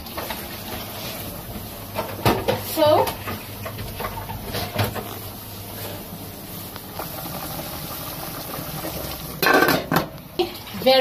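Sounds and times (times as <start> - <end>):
kitchen background hum and hiss: 0.0 - 11.0.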